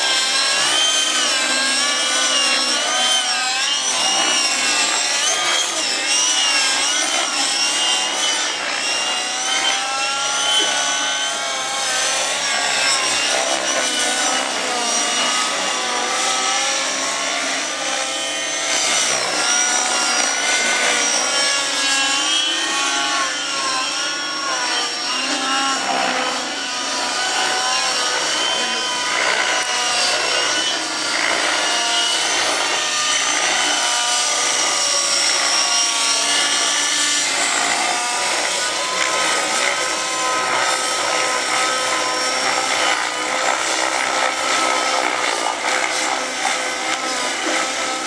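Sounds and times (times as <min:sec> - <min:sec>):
model helicopter engine whine: 0:00.0 - 0:48.0.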